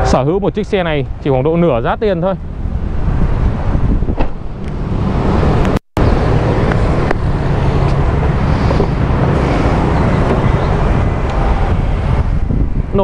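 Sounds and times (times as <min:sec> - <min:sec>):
street traffic roar: 0:00.0 - 0:13.0
wind buffeting microphone: 0:00.6 - 0:13.0.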